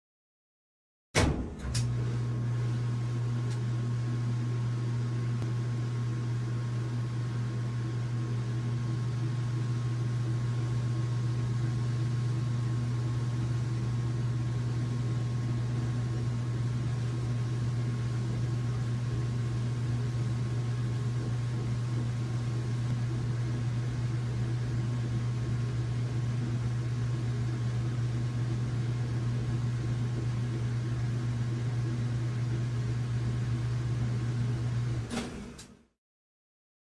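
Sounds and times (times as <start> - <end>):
washing machine humming: 1.2 - 35.9.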